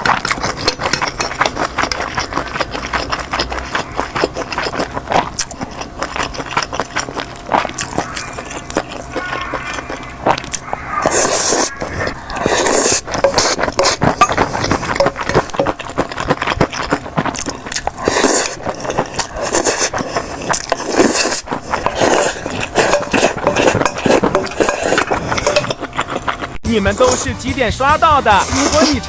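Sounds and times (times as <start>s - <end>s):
chewing and mouth sounds: 0.0s - 27.4s, 28.2s - 29.0s.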